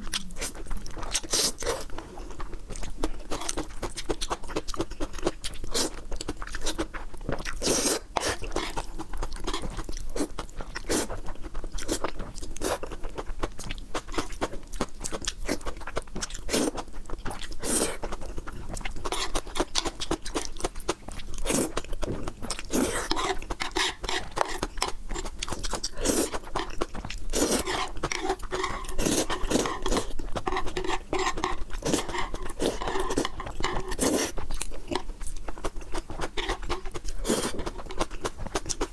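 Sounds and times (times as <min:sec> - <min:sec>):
wet chewing and smacking: 0:00.0 - 0:38.9.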